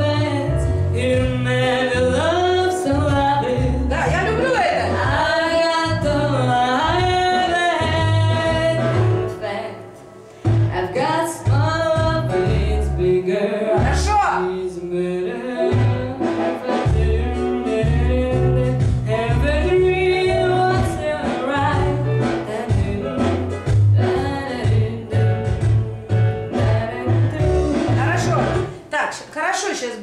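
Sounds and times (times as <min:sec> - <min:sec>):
woman singing: 0:00.0 - 0:10.0, 0:10.7 - 0:25.7, 0:26.4 - 0:28.7
instrumental backing track: 0:00.0 - 0:29.3.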